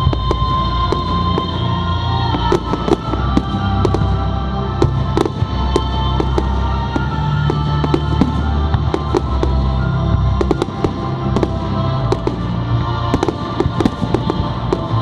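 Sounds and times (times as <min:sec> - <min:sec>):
fireworks bangs and crackles: 0:00.0 - 0:15.0
music over loudspeakers: 0:00.0 - 0:15.0.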